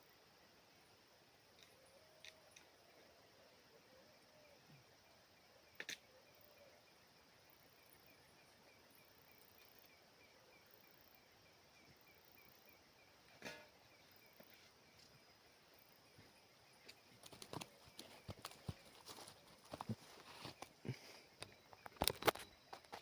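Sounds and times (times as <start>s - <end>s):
soft repeated chirp: 1.5s - 23.0s.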